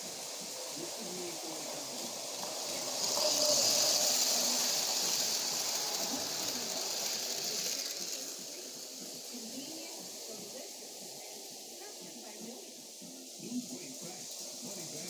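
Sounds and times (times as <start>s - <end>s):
model train rolling past: 0.0s - 15.0s.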